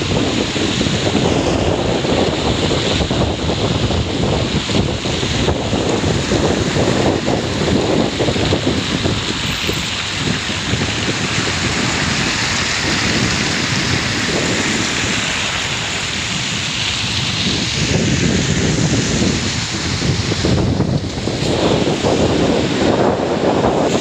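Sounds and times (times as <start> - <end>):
heavy rain hissing: 0.0 - 24.0
strong wind buffeting microphone: 0.0 - 24.0.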